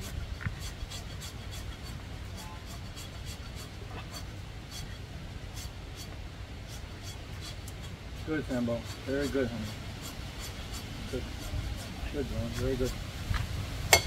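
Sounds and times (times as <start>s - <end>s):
knife scraping foot sole: 0.0s - 13.0s
low steady rumble: 0.0s - 14.0s.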